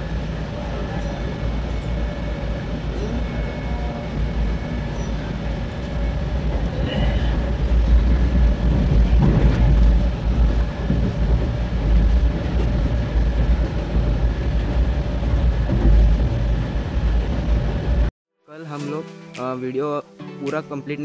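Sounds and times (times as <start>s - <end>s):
train wheels rumbling on rails: 0.0s - 18.1s.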